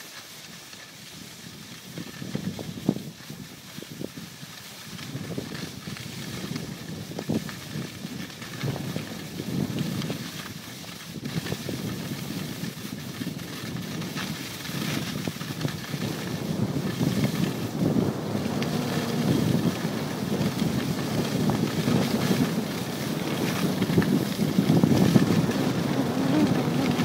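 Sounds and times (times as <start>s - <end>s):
snowboard scraping on snow: 0.0s - 27.0s
wind buffeting microphone: 1.5s - 27.0s.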